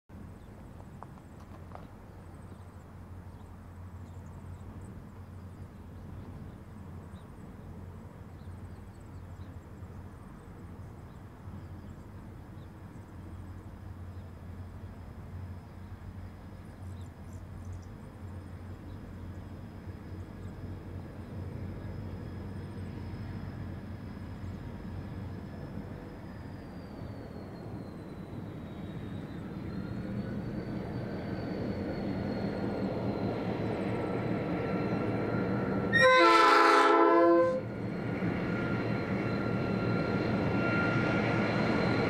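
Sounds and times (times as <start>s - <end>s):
diesel locomotive engine drone: 0.1s - 42.0s.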